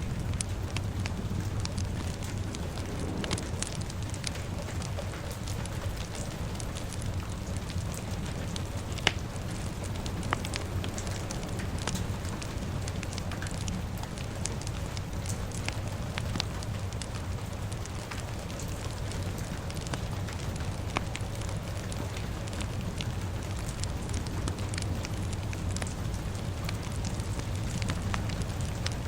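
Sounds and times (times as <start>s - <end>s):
fire crackling and popping: 0.0s - 29.0s
rain: 0.0s - 29.0s.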